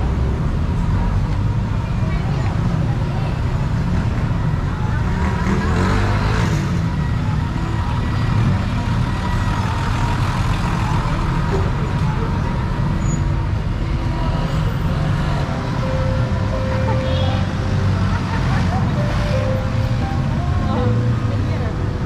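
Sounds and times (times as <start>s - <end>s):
bus engine rumbling: 0.0s - 22.0s
street traffic: 0.0s - 22.0s.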